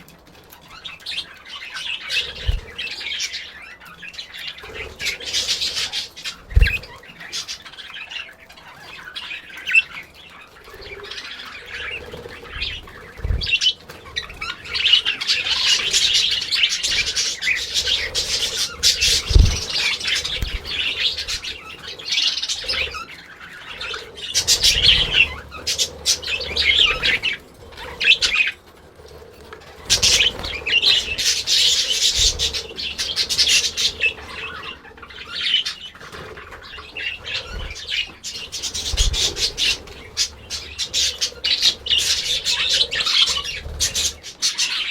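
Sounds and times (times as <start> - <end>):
budgerigars chattering and warbling: 0.0 - 44.9.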